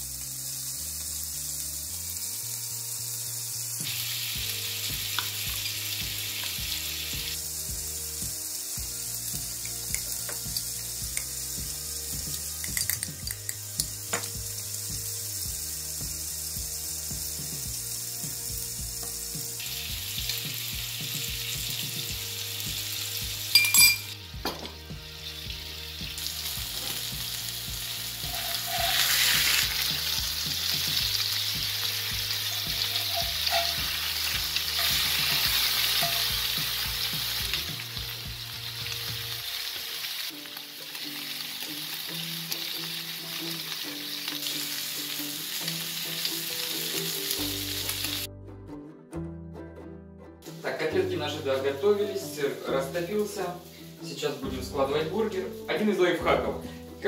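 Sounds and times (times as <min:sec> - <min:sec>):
burger patties sizzling: 0:00.0 - 0:48.3, 0:50.5 - 0:56.4.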